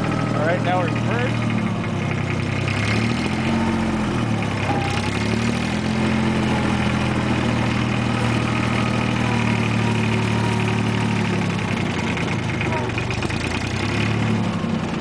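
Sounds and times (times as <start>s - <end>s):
diesel tractor engine running: 0.0s - 15.0s.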